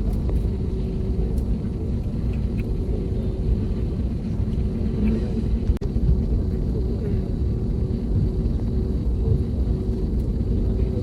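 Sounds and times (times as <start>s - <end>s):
faint steady hum: 0.0s - 11.0s
low engine rumble: 0.0s - 11.0s.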